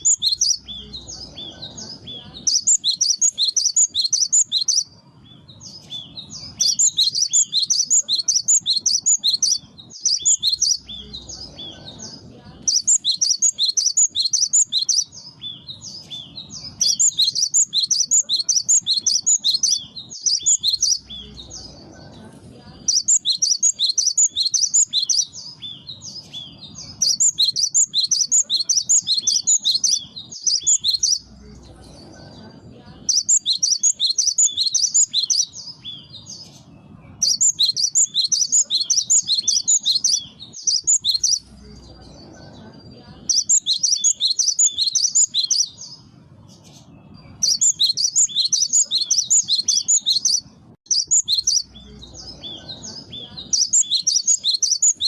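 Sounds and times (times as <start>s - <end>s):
bird singing rapid high chirps: 0.0s - 55.0s.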